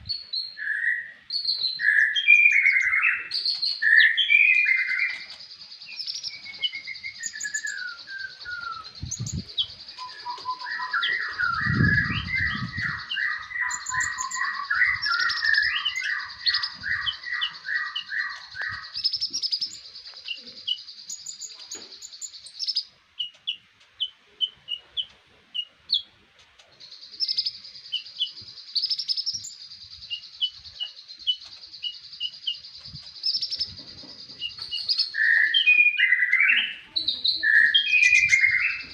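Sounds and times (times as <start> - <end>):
songbird singing trills and chirps: 0.0 - 38.9.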